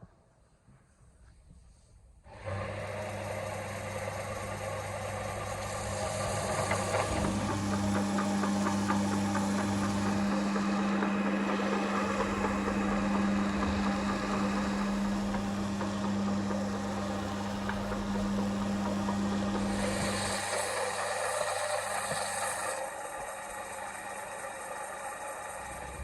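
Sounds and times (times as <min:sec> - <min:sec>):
electric motor humming: 0:02.3 - 0:26.0.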